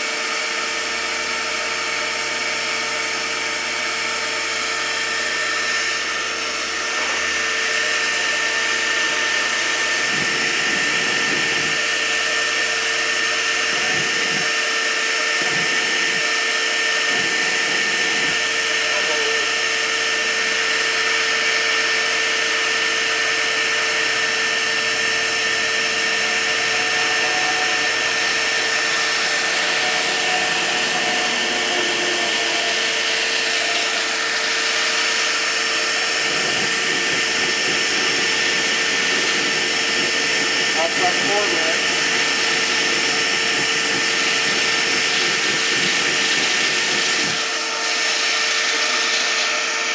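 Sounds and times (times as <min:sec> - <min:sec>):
shop vacuum motor whine: 0:00.0 - 0:49.9.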